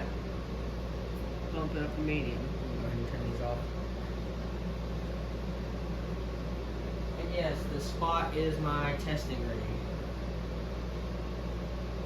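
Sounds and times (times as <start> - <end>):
ceiling fan motor hum: 0.0 - 12.0
fan air whoosh: 0.0 - 12.0.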